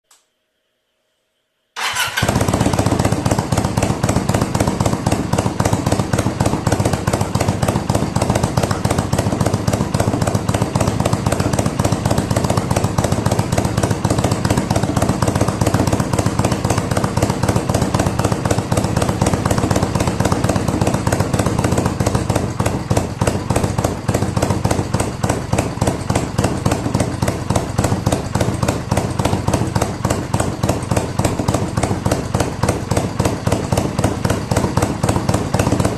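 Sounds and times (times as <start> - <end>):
motorcycle engine idling: 1.8 - 35.9.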